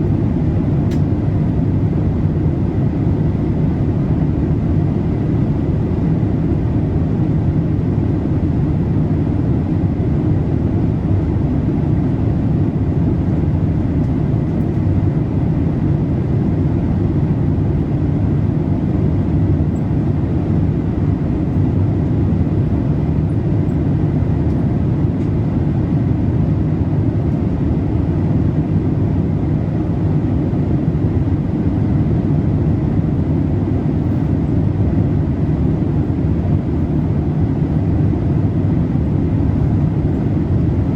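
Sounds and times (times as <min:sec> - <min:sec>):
airliner cabin airflow and engine: 0:00.0 - 0:40.9
faint high hum: 0:00.0 - 0:40.9.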